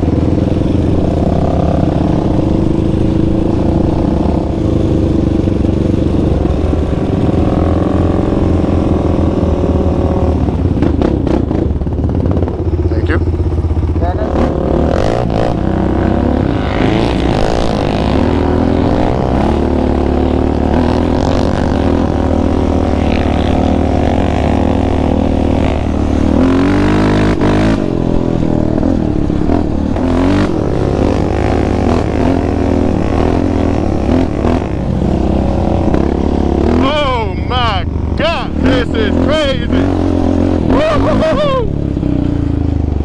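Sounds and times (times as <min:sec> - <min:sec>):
quad engine revving: 0:00.0 - 0:43.0.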